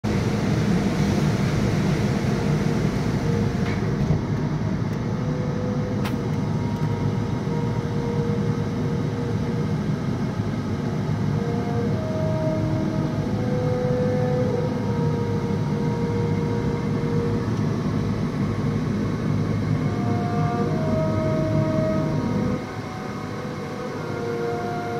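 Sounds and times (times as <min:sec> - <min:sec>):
car wash mechanical rumble: 0:00.0 - 0:24.9.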